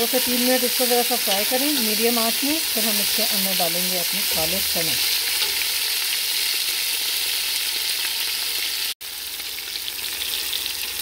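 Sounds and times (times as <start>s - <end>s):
oil sizzling in a pot: 0.0s - 11.0s.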